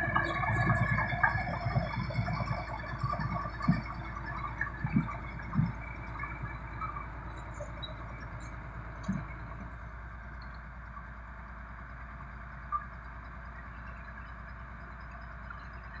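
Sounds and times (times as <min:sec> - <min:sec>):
bulldozer diesel engine rumbling: 0:00.0 - 0:16.0.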